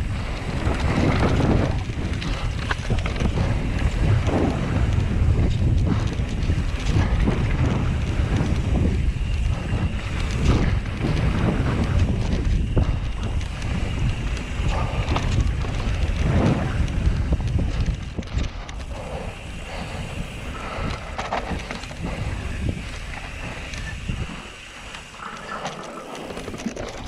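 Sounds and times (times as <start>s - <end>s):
bike rattling over bumps: 0.0s - 27.0s
bike tyre noise: 0.0s - 27.0s
wind buffeting microphone: 0.0s - 27.0s.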